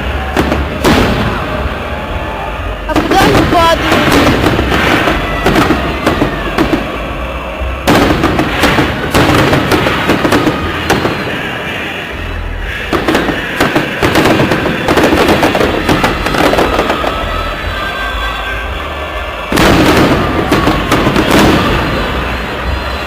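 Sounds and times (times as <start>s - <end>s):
fireworks bangs with crackling: 0.0s - 23.0s.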